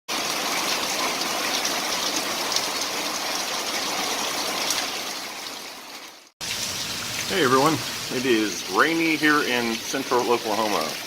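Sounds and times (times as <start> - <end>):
heavy rain pouring: 0.1 - 11.0.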